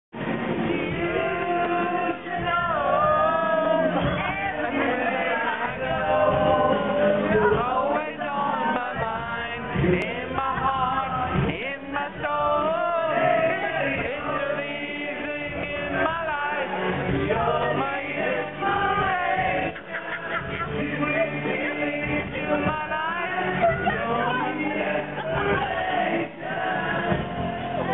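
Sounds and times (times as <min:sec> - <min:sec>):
music: 0:00.1 - 0:27.9
man singing: 0:00.6 - 0:27.9.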